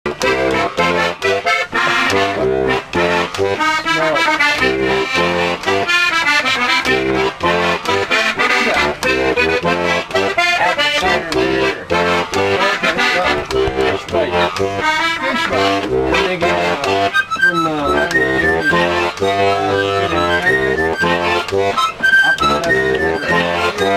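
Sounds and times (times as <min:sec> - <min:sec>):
accordion playing lively tune: 0:00.1 - 0:23.9.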